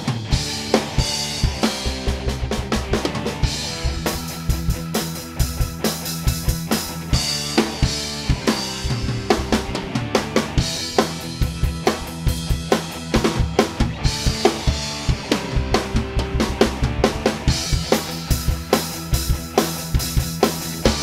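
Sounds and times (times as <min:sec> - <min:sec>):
drum kit playing steady beat: 0:00.0 - 0:21.0
recorded music: 0:00.0 - 0:21.0.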